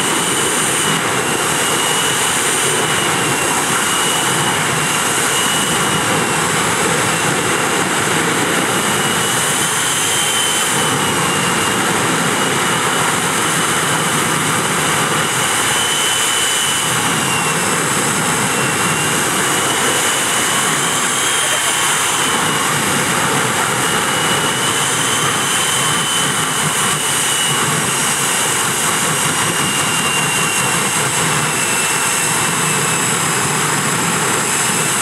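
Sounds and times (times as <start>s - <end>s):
high wavering whine: 0.0s - 35.0s
jet engine roaring: 0.0s - 35.0s.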